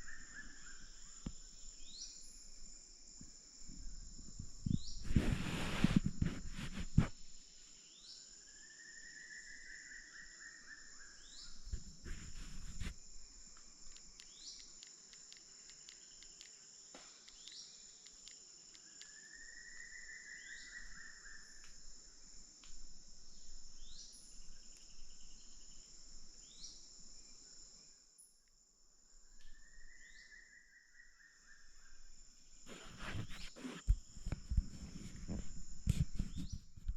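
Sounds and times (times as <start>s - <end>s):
high-pitched insect buzz: 0.0s - 36.8s.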